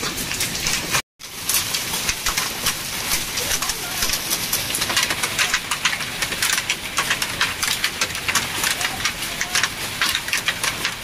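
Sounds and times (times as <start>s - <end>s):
hail and rain pelting: 0.0s - 11.0s.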